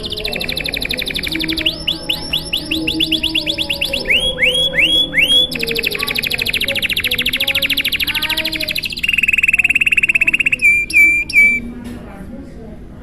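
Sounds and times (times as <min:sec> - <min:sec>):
canary singing trills: 0:00.0 - 0:11.7.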